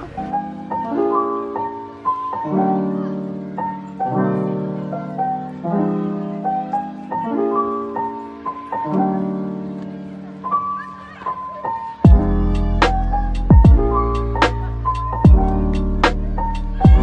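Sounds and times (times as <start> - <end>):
slow piano chords and melody: 0.0 - 17.0.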